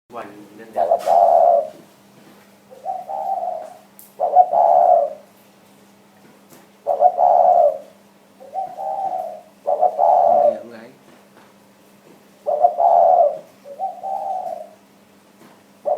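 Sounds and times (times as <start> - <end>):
dove cooing: 0.2 - 5.4, 6.2 - 11.0, 12.2 - 15.9.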